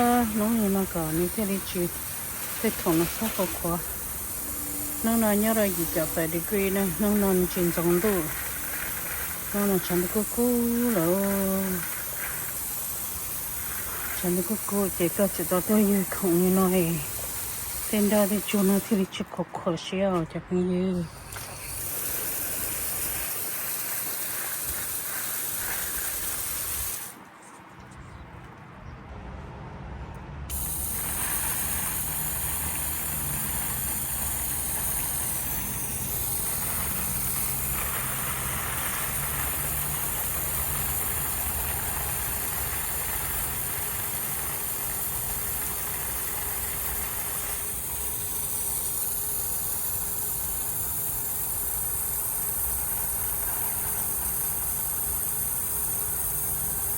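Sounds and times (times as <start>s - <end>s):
hose spraying water: 0.0s - 27.7s, 30.5s - 56.9s.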